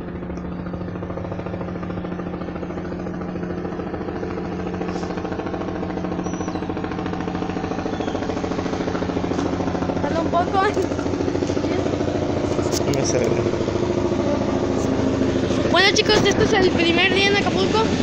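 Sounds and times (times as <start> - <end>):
helicopter engine tone: 0.0 - 18.0
helicopter rotor beating: 0.0 - 18.0.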